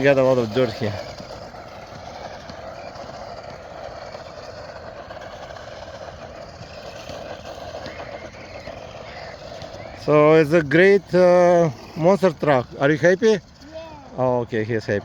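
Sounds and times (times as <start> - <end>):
rc truck driving over dirt: 0.0 - 15.0.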